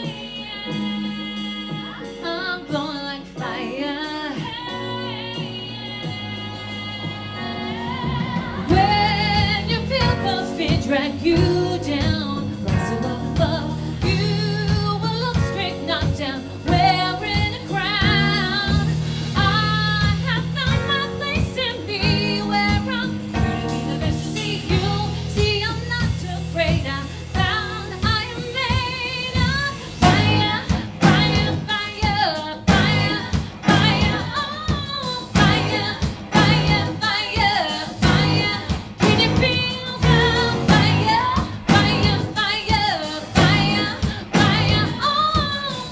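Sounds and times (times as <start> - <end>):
bass guitar: 0.0 - 45.9
drums: 0.0 - 45.9
keyboards: 0.0 - 45.9
woman singing: 0.0 - 45.9.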